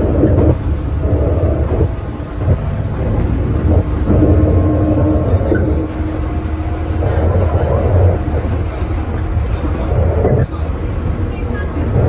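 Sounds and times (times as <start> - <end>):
constant hum: 0.0 - 12.0
train wheels rumbling on rail: 0.0 - 12.0.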